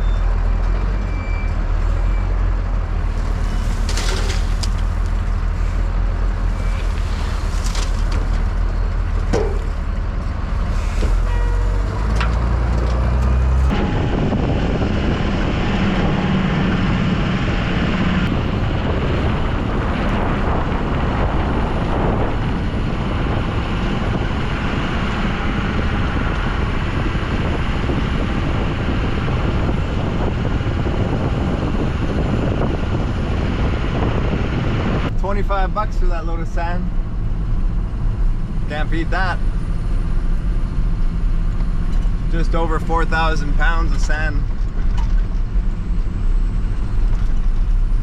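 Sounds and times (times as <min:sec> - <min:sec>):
truck driving: 0:00.0 - 0:48.0.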